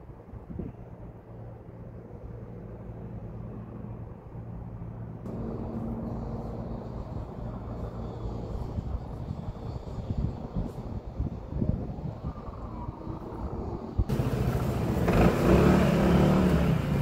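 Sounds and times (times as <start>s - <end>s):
road noise: 0.0s - 17.0s
vehicle engine humming: 1.4s - 17.0s.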